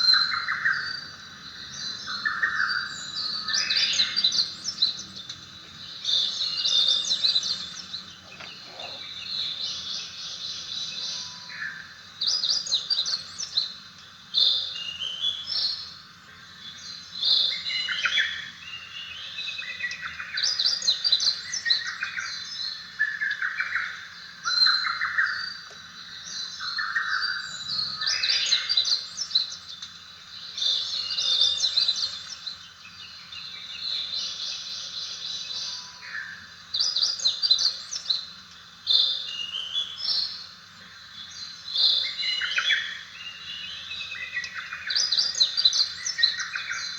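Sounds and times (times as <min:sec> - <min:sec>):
recorded birdsong: 0:00.0 - 0:46.9.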